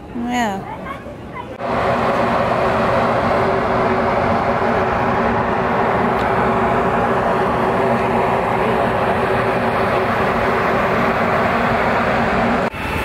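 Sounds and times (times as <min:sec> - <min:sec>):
constant low hum: 0:00.0 - 0:13.0
large engine running: 0:01.6 - 0:13.0.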